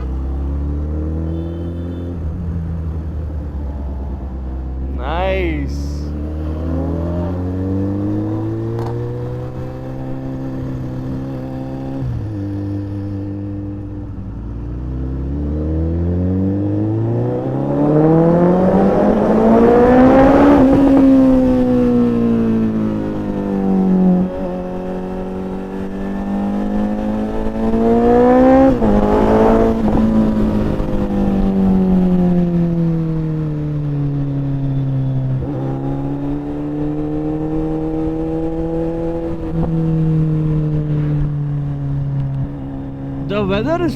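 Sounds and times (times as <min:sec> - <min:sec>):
motorcycle engine revving: 0:06.0 - 0:43.3.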